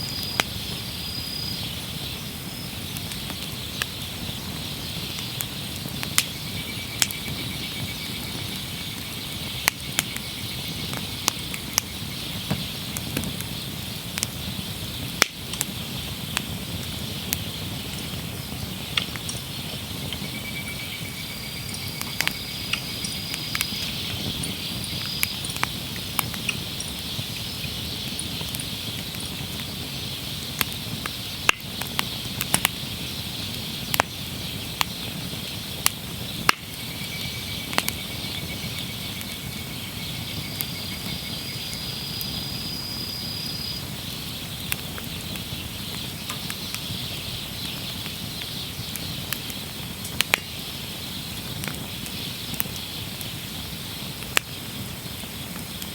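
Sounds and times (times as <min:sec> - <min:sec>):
campfire crackling: 0:00.0 - 0:55.9
fire popping: 0:00.0 - 0:55.9.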